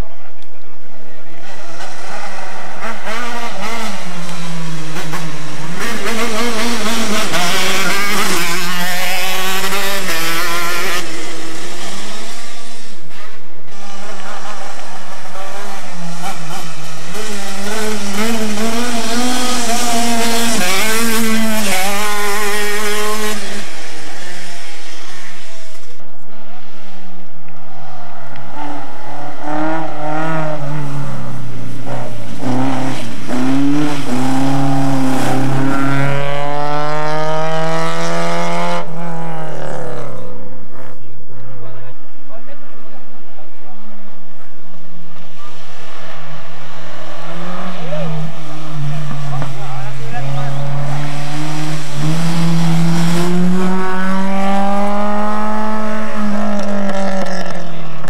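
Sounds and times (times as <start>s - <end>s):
race car engine revving: 0.0s - 26.7s, 27.4s - 58.0s
second racing car revving: 0.0s - 58.0s.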